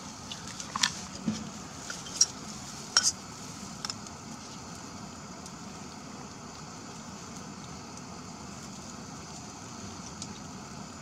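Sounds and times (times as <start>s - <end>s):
snow hissing in hot pot: 0.0s - 11.0s
sharp ticks and crackles: 1.8s - 11.0s.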